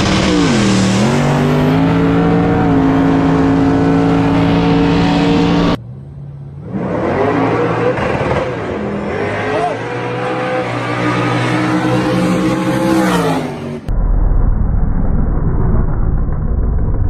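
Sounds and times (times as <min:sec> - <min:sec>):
race car engines from roadside: 0:00.0 - 0:13.9
car engine at full throttle: 0:00.0 - 0:14.0.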